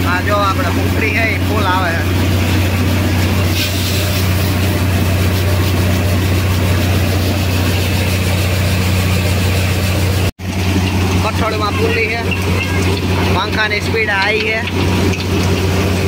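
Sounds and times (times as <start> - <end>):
low engine hum: 0.0 - 16.0
threshing machine whirring: 0.0 - 16.0.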